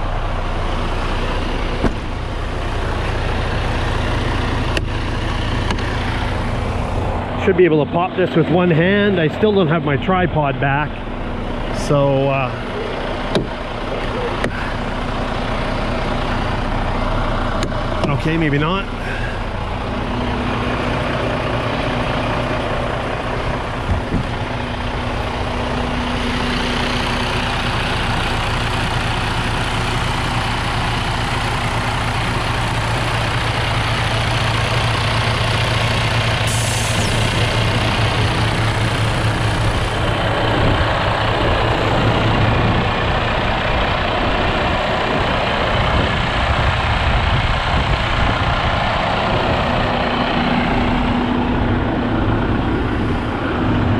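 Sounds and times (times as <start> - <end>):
diesel truck engine idling: 0.0 - 53.9.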